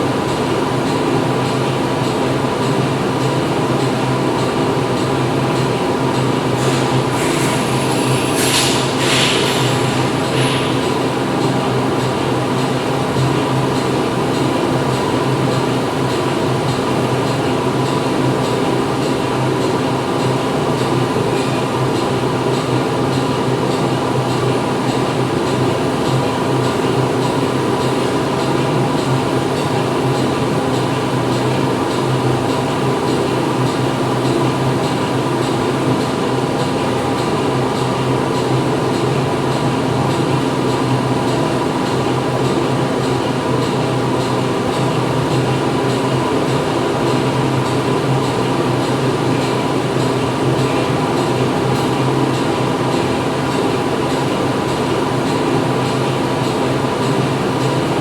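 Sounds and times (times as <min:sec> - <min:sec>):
factory machinery humming: 0:00.0 - 0:58.0.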